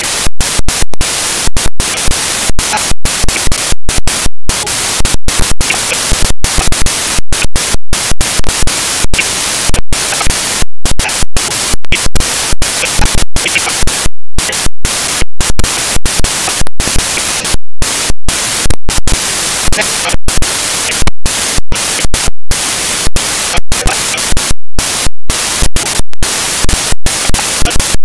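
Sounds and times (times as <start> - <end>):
loud glitching static hiss: 0.0 - 28.0.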